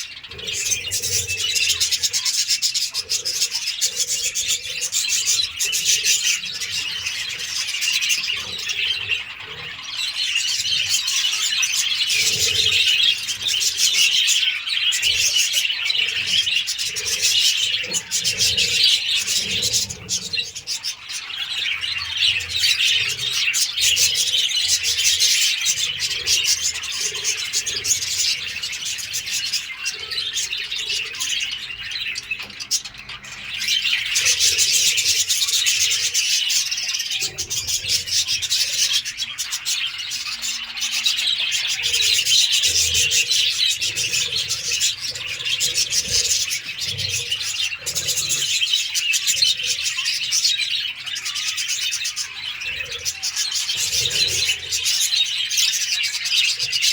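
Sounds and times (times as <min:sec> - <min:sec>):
parrots chattering: 0:00.0 - 0:56.9.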